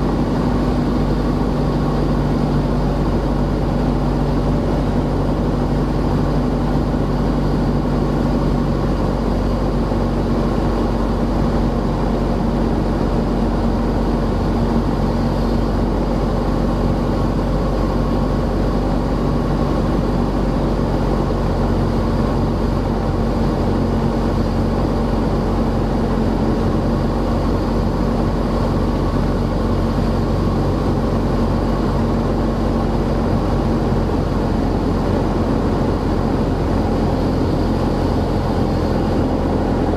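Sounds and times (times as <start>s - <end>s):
light airplane engine droning: 0.0s - 39.9s.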